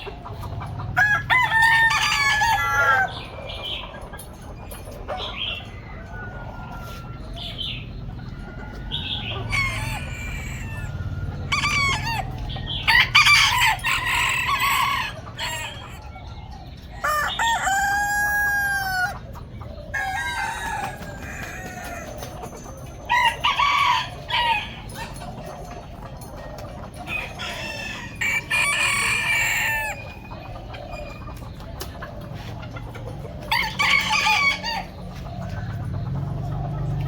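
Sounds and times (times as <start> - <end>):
chicken clucking: 0.0 - 37.0
roosters crowing: 0.0 - 37.0.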